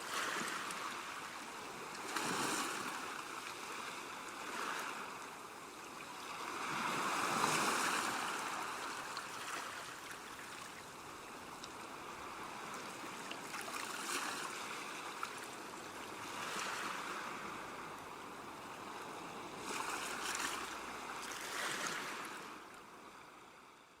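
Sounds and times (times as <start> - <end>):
sea waves on rocky shore: 0.0 - 22.6.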